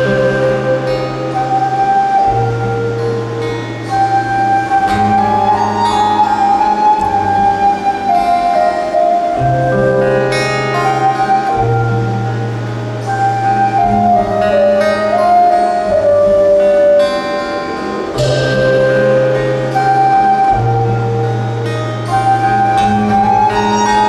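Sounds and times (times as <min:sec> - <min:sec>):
plucked-string notes: 0:00.0 - 0:24.0
sliding flute-like melody: 0:00.0 - 0:24.0.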